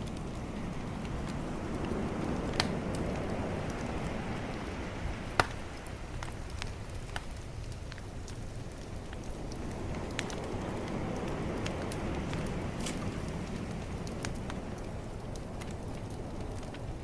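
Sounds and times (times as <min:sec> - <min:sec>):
bonfire crackling and popping: 0:00.0 - 0:17.0
calm ocean waves: 0:00.0 - 0:17.0.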